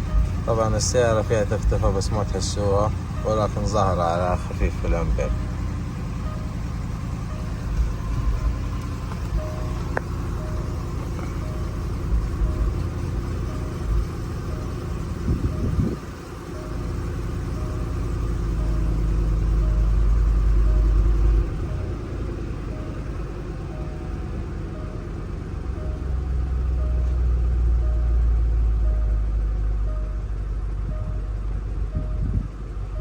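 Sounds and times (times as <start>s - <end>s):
car engine idling with misfire: 0.0s - 33.0s.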